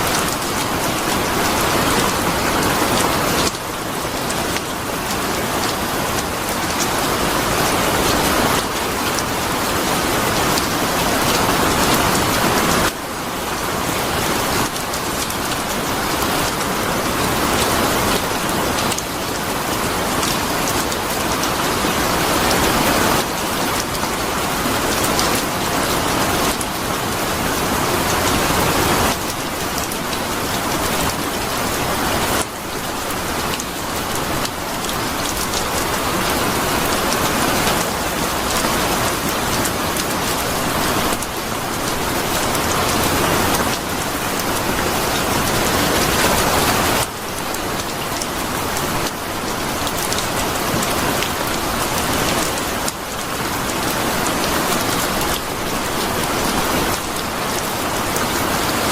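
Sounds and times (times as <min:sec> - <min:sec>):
heavy rain patter: 0:00.0 - 0:58.9.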